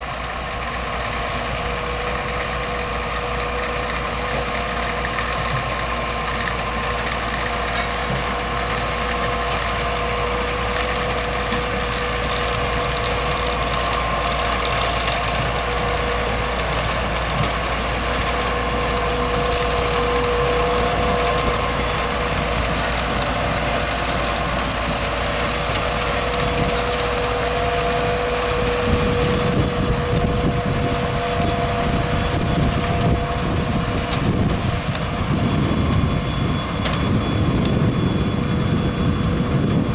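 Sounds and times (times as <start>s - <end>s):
tractor and harvester din: 0.0s - 39.9s.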